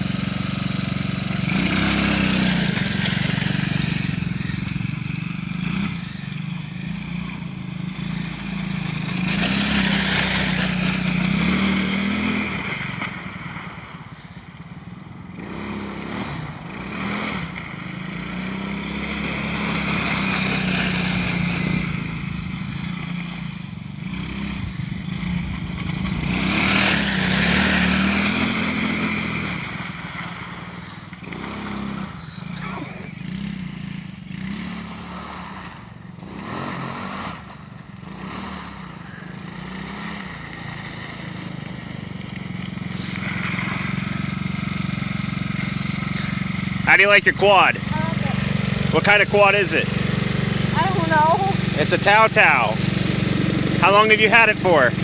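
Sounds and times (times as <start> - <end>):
small quad bike engine: 0.0 - 55.0.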